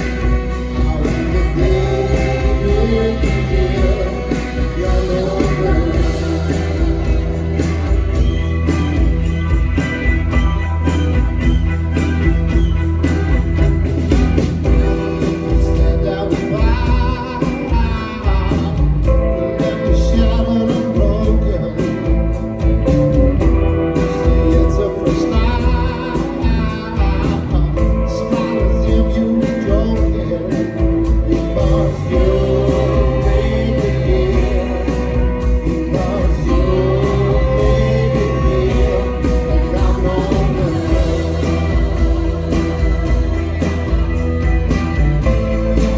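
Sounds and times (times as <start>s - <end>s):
lead singer vocals: 0.0s - 9.5s, 14.6s - 45.9s
heavy bass line: 0.0s - 45.9s
rock band playing: 0.0s - 45.9s.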